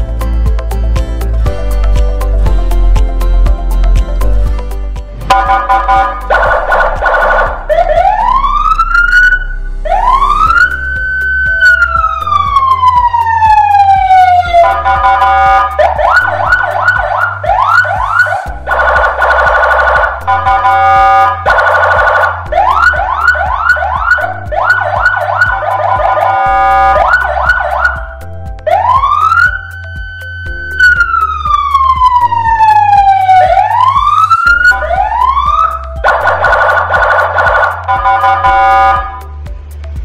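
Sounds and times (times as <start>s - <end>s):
electronic vehicle siren: 5.3s - 39.3s.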